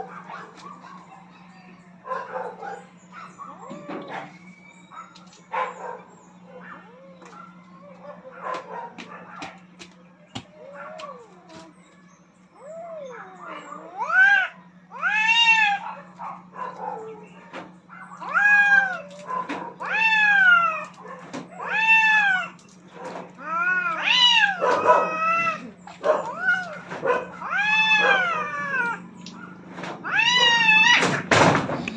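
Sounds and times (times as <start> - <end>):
cats caterwauling: 0.0 - 31.9.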